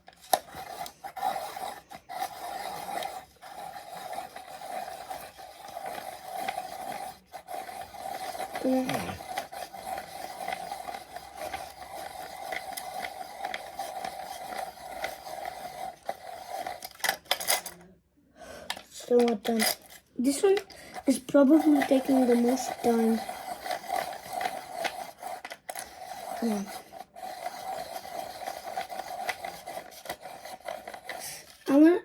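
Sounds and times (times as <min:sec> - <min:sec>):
electric pencil sharpener motor whine: 0:00.0 - 0:17.1, 0:21.7 - 0:31.5
cutter grinding pencil: 0:00.0 - 0:17.8, 0:18.7 - 0:31.9.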